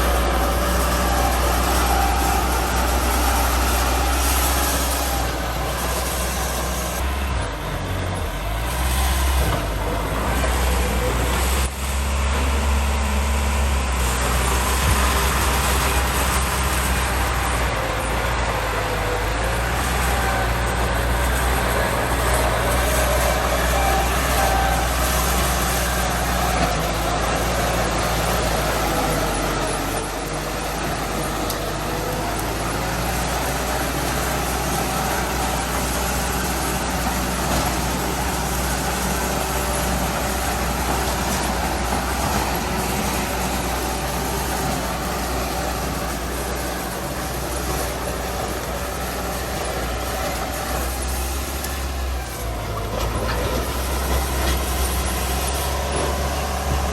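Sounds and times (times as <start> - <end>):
heavy diesel machinery engine drone: 0.0 - 56.9.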